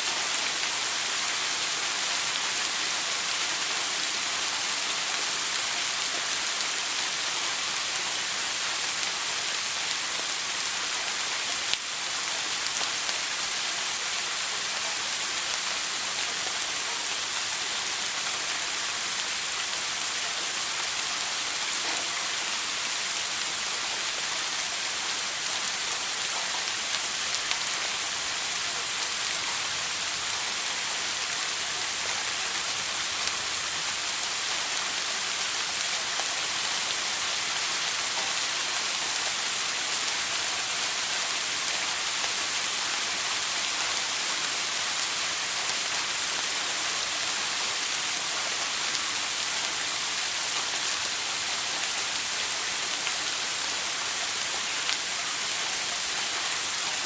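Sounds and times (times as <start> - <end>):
shower water spraying: 0.1 - 57.0.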